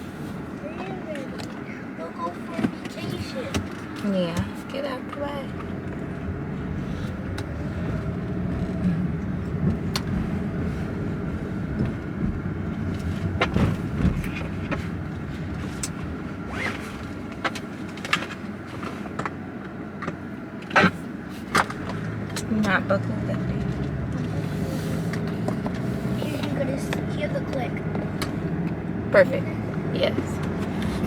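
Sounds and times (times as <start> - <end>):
low steady rumble: 0.0 - 19.0, 21.1 - 31.0
clicks and rustling in a car: 0.2 - 31.0.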